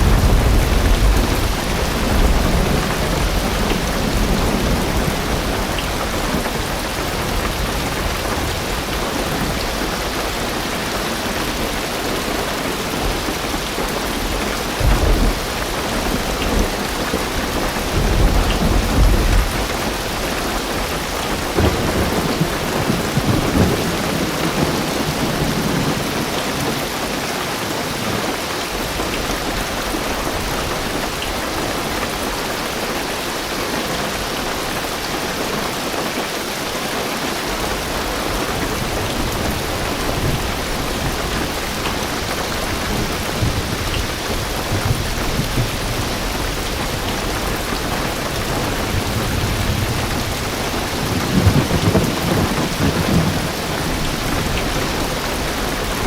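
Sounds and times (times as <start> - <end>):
low rumble of thunder: 0.0 - 27.0, 37.6 - 56.0
heavy rain on car roof: 0.0 - 56.0.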